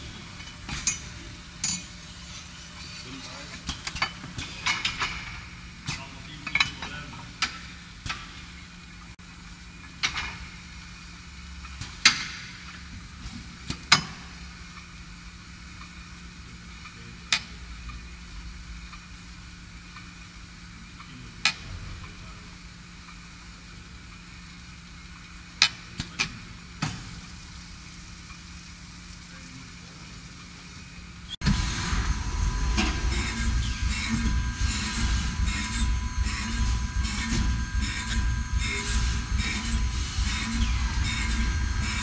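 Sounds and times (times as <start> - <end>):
machine hum with high whine: 0.0 - 42.0.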